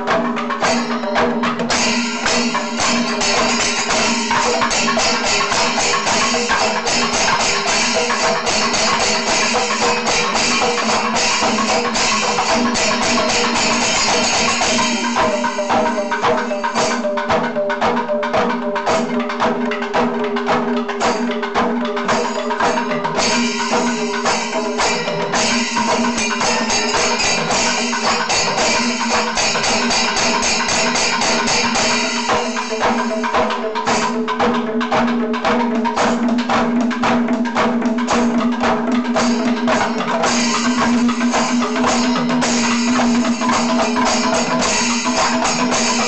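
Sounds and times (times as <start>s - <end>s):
hand cymbals jingling: 0.0s - 17.5s, 21.0s - 34.5s, 38.1s - 46.0s
hand drums struck rapidly: 0.0s - 46.0s.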